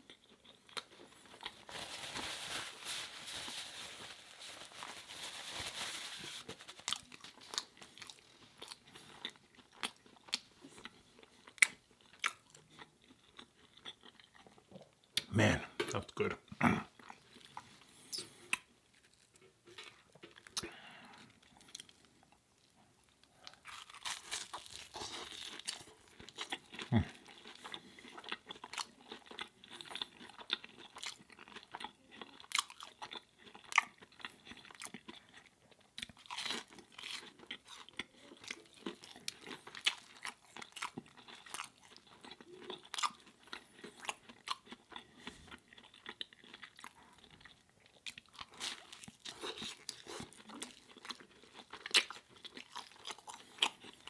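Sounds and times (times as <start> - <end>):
person chewing crunchy food: 0.0 - 15.2, 16.8 - 54.0.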